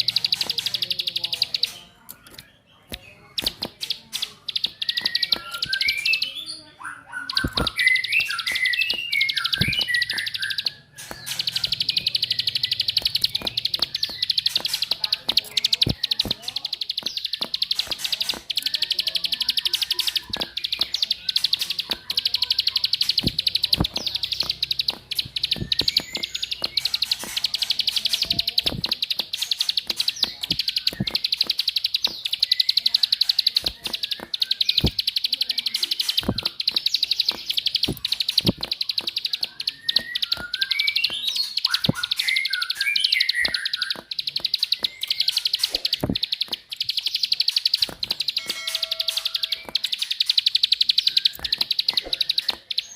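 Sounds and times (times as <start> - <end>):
bird chirping notes: 0.0 - 52.9
bird rapid clicking call: 0.0 - 52.9.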